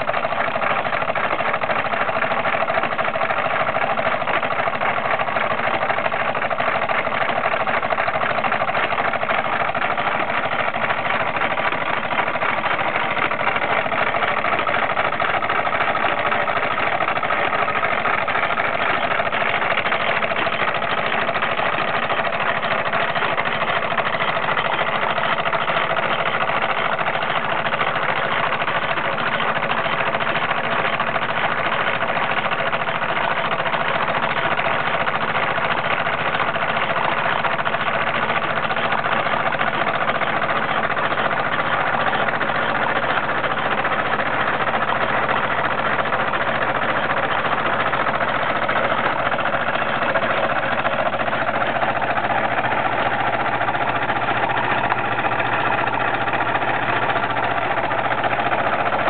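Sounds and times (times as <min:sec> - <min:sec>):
toy steam engine running: 0:00.0 - 0:59.0.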